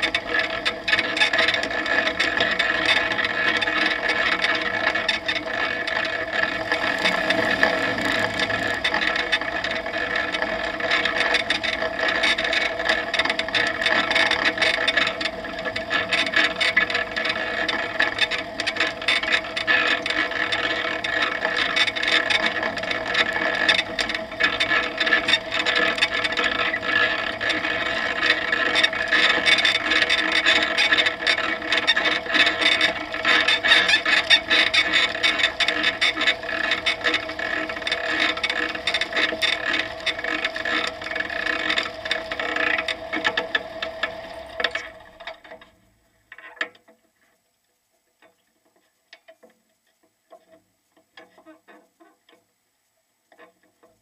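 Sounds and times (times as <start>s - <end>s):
propeller engine running: 0.0s - 45.4s
rattle of aircraft rolling over grass: 0.0s - 45.7s.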